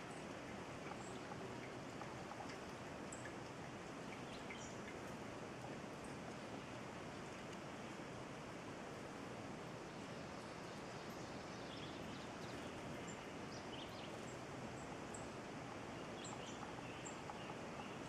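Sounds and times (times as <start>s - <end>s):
small birds chirping faintly: 0.0s - 18.0s
steady background hiss: 0.0s - 18.0s.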